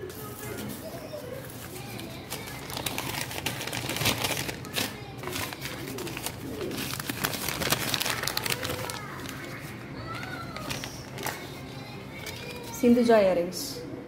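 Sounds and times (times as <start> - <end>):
paper wrapping rustling: 0.0 - 13.0.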